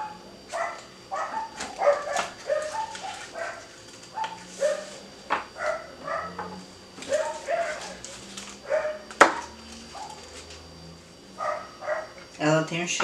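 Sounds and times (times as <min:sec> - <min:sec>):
dogs barking: 0:00.0 - 0:10.3, 0:11.4 - 0:12.2.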